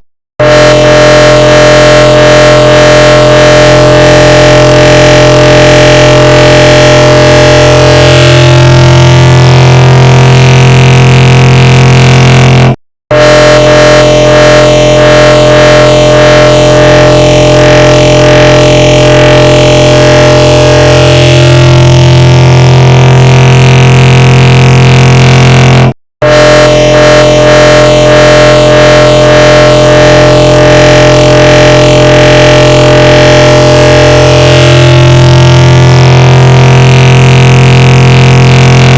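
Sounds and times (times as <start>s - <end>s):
layered bruh sound effect drone: 0.4s - 38.9s.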